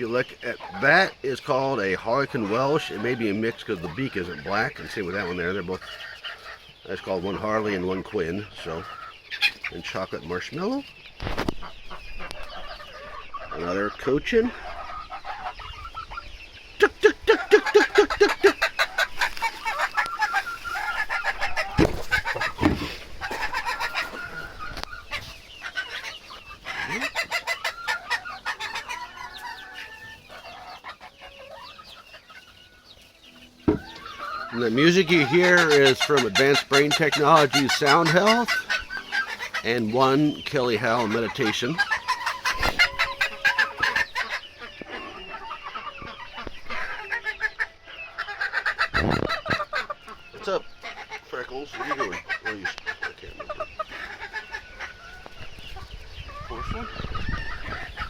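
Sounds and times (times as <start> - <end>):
chickens clucking and chirping: 0.0 - 58.0.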